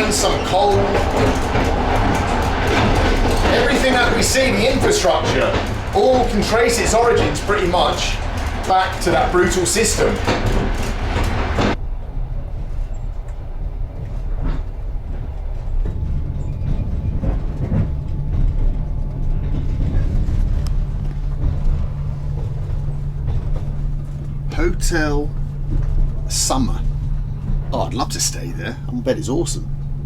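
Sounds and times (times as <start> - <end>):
passenger train rumbling: 0.0 - 30.0
train wheel clicks: 0.0 - 30.0.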